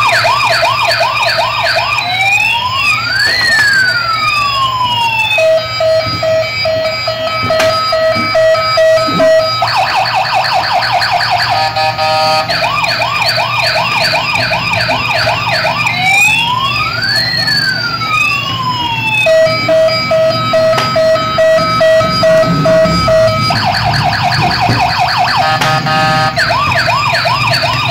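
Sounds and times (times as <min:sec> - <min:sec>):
toy police siren: 0:00.0 - 0:27.9.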